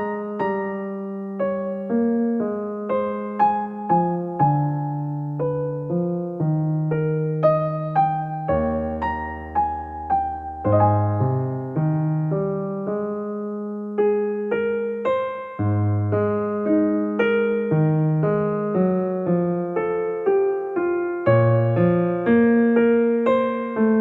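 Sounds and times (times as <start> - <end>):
soft electric piano music: 0.0 - 24.0.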